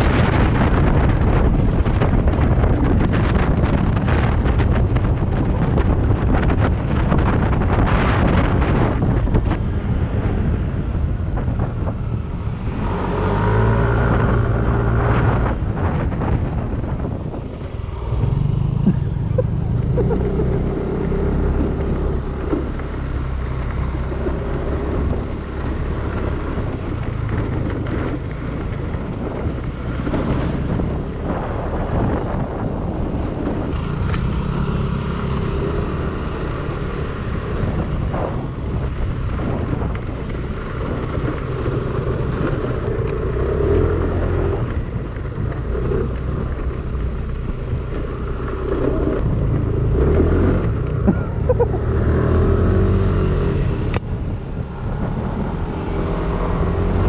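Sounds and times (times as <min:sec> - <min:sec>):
scooter engine rumbling: 0:00.0 - 0:57.0.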